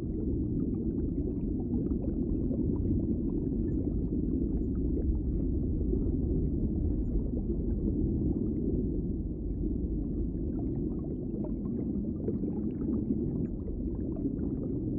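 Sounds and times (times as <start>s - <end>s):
underwater rumbling wash: 0.0s - 14.9s.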